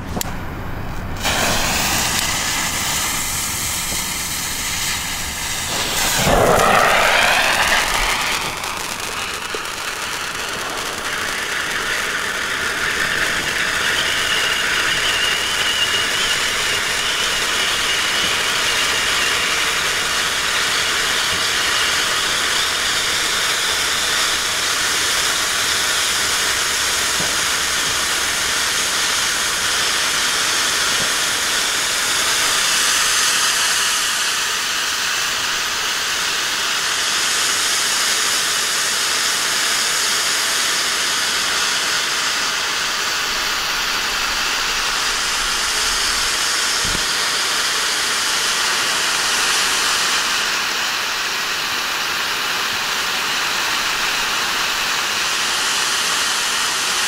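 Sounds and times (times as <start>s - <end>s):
firework fountain hissing: 0.0s - 57.0s.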